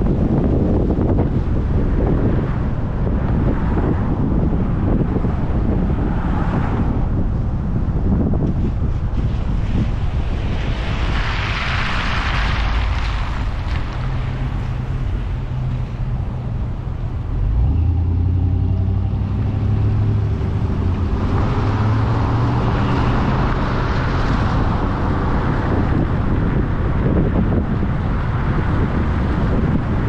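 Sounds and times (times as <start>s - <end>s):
car engine hum: 0.0s - 30.0s
tyre road noise: 0.0s - 30.0s.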